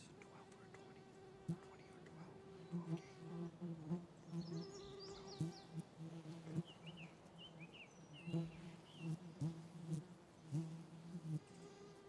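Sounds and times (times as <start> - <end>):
small birds chirping: 0.0 - 12.0
flying insect buzzing: 0.2 - 7.0, 8.2 - 12.0.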